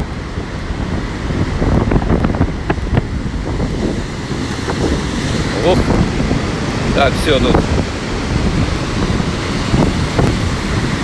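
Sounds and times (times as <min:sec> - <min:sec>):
heavy surf rushing: 0:00.0 - 0:11.0
storm wind buffeting microphone: 0:00.0 - 0:11.0.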